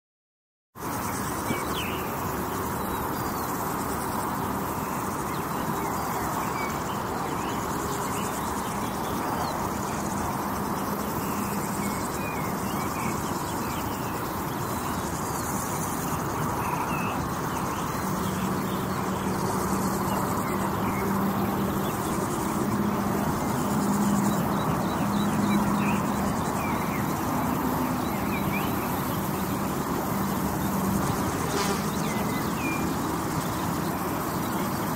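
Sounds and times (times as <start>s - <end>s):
distant traffic noise: 0.8s - 34.9s
bird chirps: 4.7s - 34.9s.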